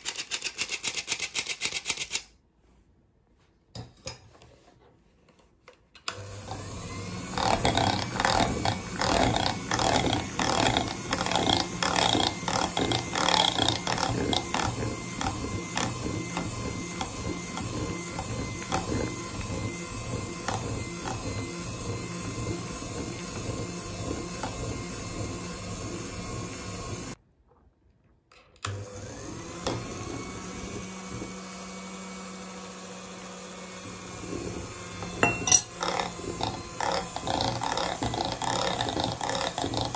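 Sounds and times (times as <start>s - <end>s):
electric hand mixer running: 6.1s - 27.2s, 28.7s - 39.9s.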